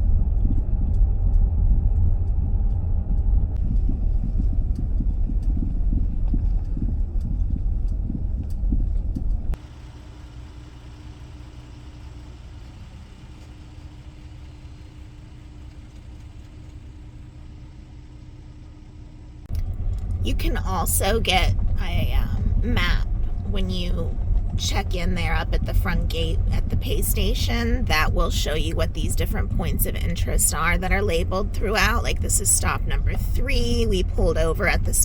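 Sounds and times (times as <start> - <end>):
quiet hum with droning tone: 0.0 - 35.0
tyre and engine rumble: 0.0 - 35.0.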